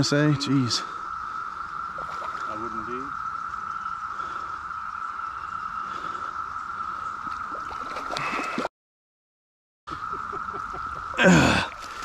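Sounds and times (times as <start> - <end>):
cicada chorus drone: 0.0 - 8.6, 9.9 - 12.0.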